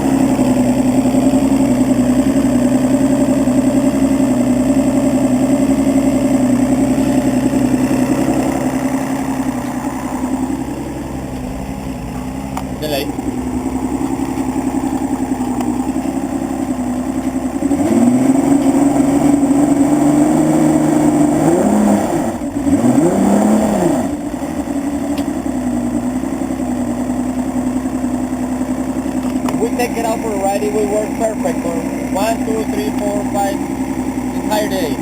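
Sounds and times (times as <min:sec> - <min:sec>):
outboard engine idling and revving: 0:00.0 - 0:35.0.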